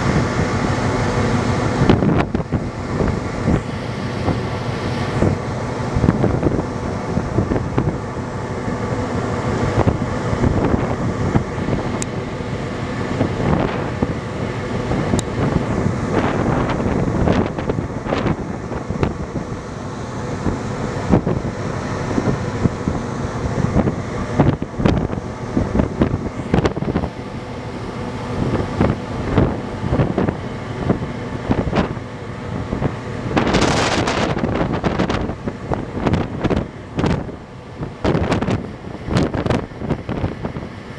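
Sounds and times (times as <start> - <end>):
ship engines humming: 0.0 - 40.9
wind buffeting microphone: 0.0 - 40.9.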